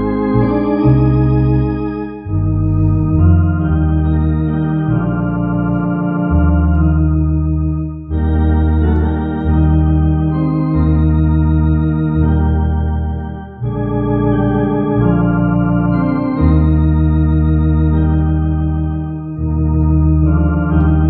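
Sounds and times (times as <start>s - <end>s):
deep organ bass line: 0.0s - 21.0s
electronic organ chords: 0.0s - 21.0s.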